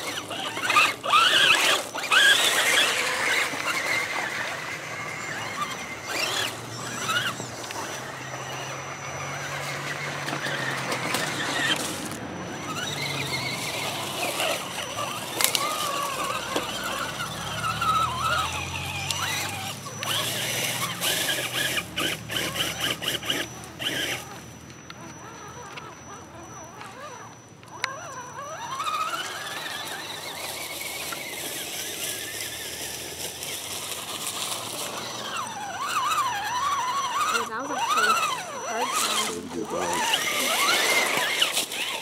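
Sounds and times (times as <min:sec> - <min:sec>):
electric motor whining: 0:00.0 - 0:42.0.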